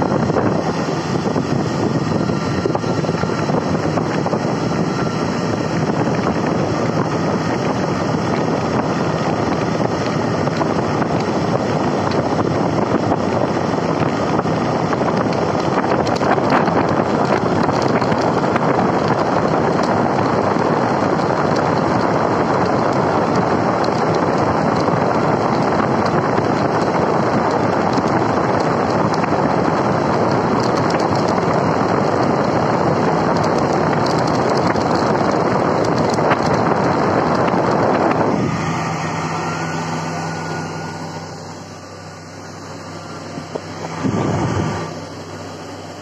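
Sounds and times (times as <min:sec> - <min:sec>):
air blower rushing: 0:00.0 - 0:46.0
wind buffeting microphone: 0:00.0 - 0:46.0.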